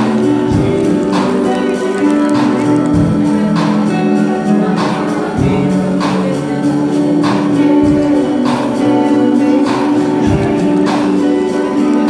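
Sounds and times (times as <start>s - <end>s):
sung vocals: 0.0s - 12.0s
sustained chords: 0.0s - 12.0s.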